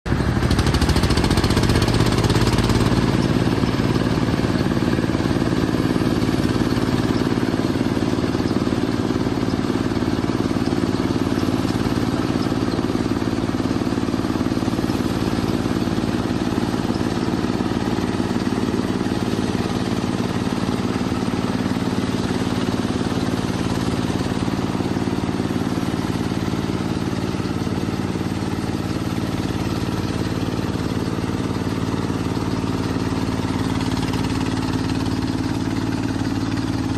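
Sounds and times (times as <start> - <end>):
harvester engine running: 0.1 - 36.9.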